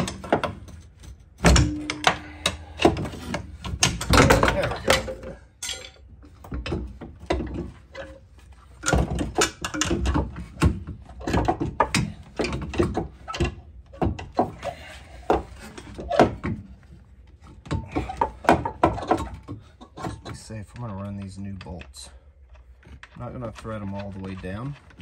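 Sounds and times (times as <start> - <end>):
metal strut clanking and scraping: 0.0 - 22.2.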